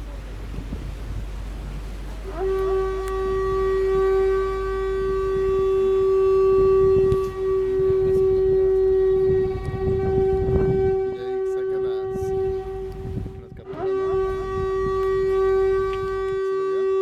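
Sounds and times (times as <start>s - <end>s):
long steady horn blast: 0.0s - 17.0s.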